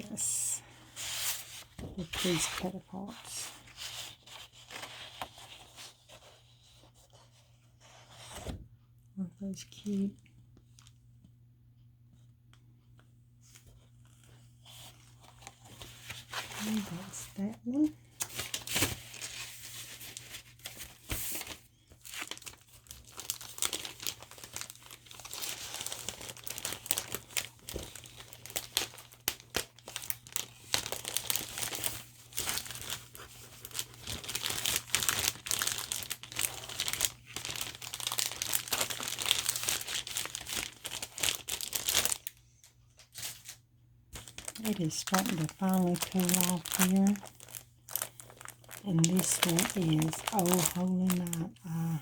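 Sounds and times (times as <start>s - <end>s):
packaging crinkling and rustling: 0.9s - 8.6s, 13.4s - 43.6s, 44.2s - 52.0s.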